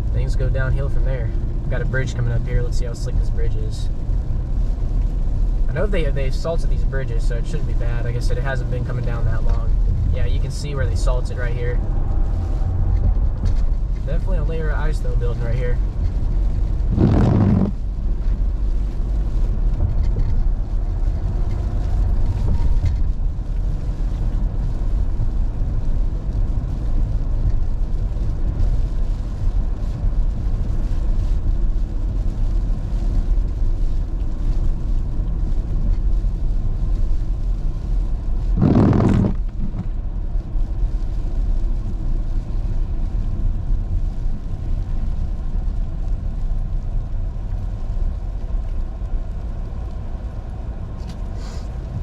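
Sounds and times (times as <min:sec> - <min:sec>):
tyres and engine rumble: 0:00.0 - 0:52.0.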